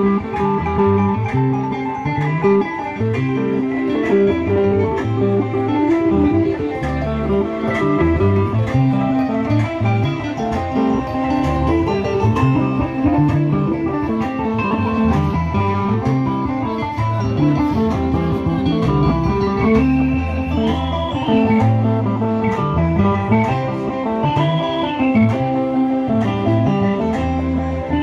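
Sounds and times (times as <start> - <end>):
bass guitar: 0.0 - 28.0
electric guitar: 0.0 - 28.0.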